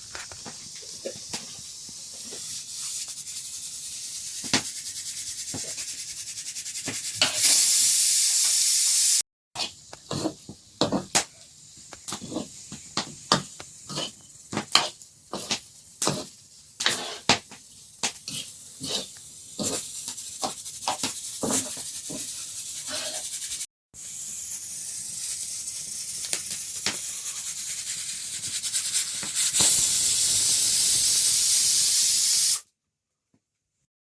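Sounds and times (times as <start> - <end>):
high sizzling hiss: 0.0 - 5.2, 7.0 - 9.2, 9.8 - 32.6.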